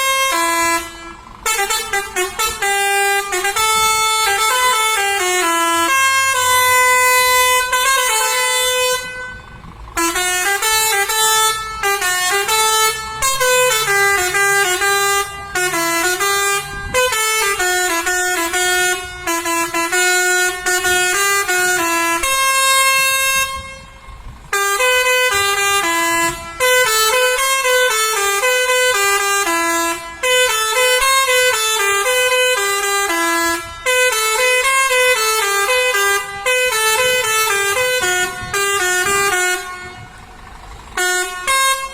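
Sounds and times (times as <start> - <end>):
multi-tone musical air horn: 0.0 - 41.9.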